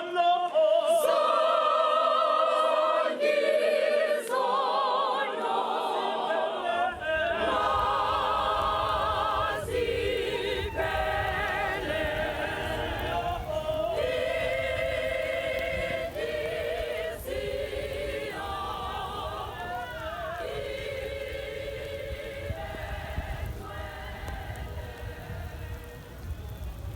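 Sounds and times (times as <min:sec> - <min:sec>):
choir singing in harmony: 0:00.0 - 0:26.4.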